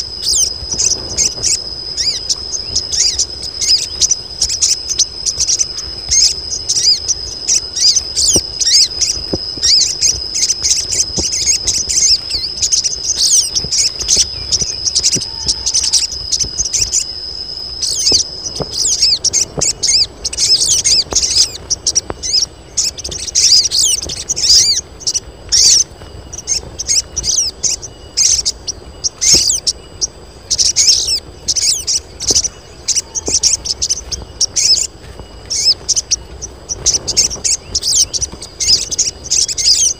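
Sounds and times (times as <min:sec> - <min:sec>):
birds chattering in high chirps: 0:00.0 - 0:39.9
high insect trill: 0:00.0 - 0:39.9.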